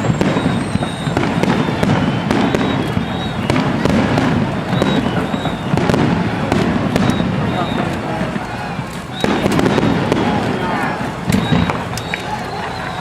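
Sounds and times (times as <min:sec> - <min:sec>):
continuous rumbling: 0:00.0 - 0:13.0
fireworks bangs and crackles: 0:00.0 - 0:13.0.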